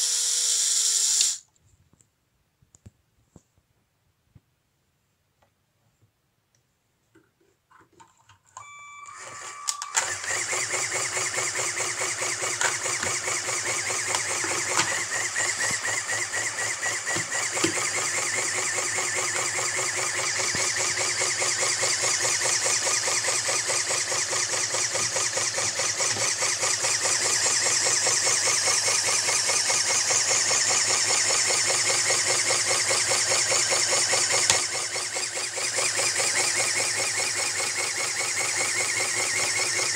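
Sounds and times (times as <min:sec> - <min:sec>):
toy pneumatic engine rattling whir: 0:00.0 - 0:01.5, 0:09.2 - 0:39.9.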